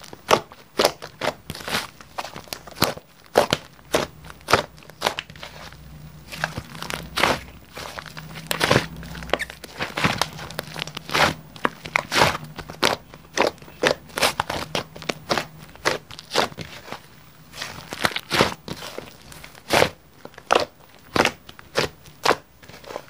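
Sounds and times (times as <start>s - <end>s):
hands squishing slime: 0.0s - 23.0s.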